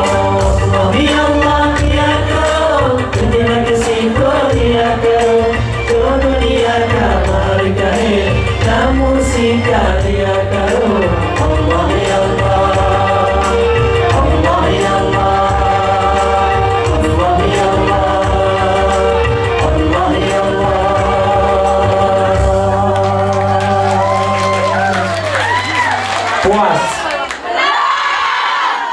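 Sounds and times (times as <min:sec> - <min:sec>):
male vocal group singing: 0:00.0 - 0:26.0.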